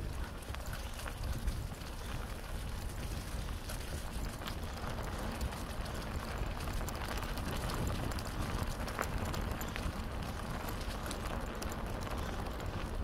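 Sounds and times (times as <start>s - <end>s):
bicycle tyres crackling on gravel: 0.0s - 13.0s
wind on microphone: 0.0s - 13.0s.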